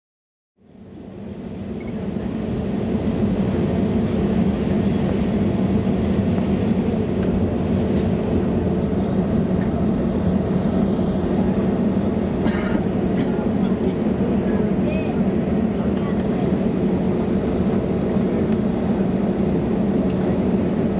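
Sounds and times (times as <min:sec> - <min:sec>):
airplane engines droning: 0:00.6 - 0:20.9.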